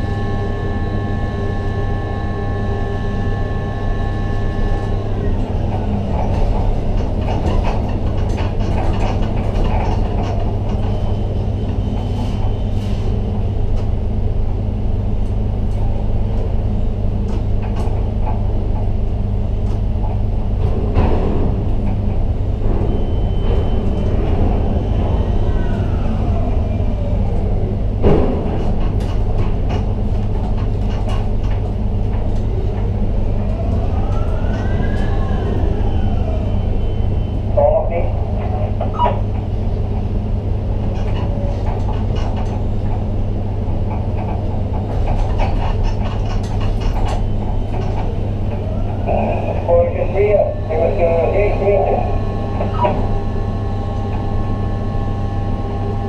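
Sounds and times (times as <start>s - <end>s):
steady low drone: 0.0s - 56.0s.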